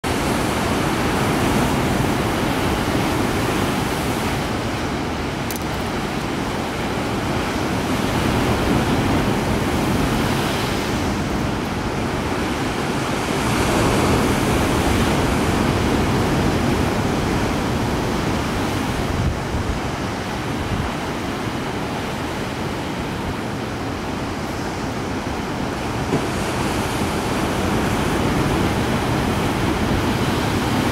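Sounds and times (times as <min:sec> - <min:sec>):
ocean surf washing over rock: 0:00.1 - 0:30.9.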